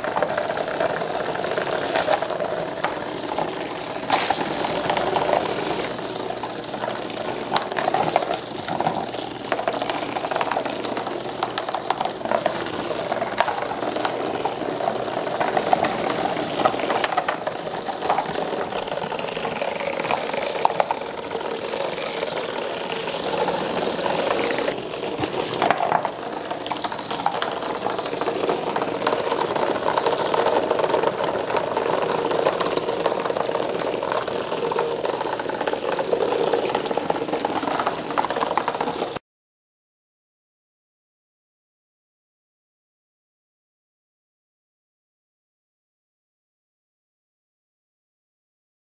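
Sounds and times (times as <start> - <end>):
robot toys buzzing and rattling: 0.0 - 39.2.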